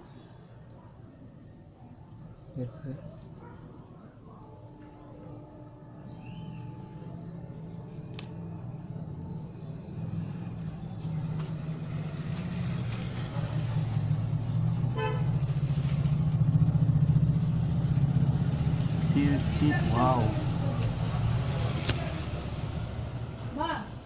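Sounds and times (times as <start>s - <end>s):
low engine drone: 4.6s - 24.0s.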